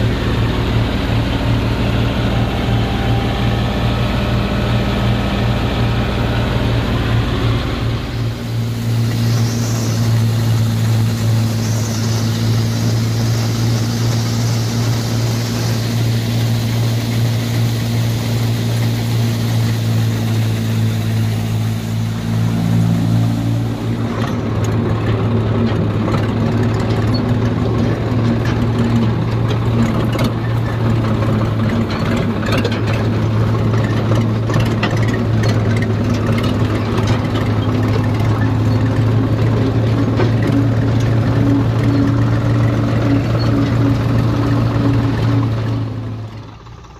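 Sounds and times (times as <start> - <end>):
threshing machine running: 0.0 - 46.9
tractor diesel engine running: 0.0 - 46.9.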